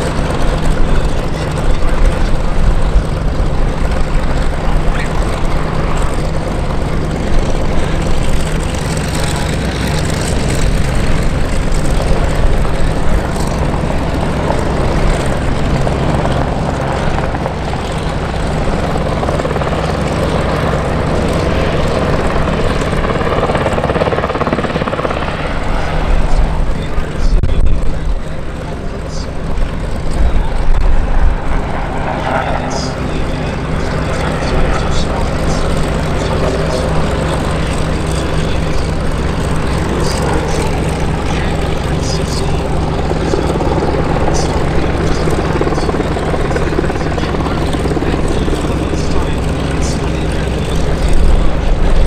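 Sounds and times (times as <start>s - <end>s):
helicopter engine noise: 0.0s - 52.0s
helicopter rotor beating: 0.0s - 52.0s.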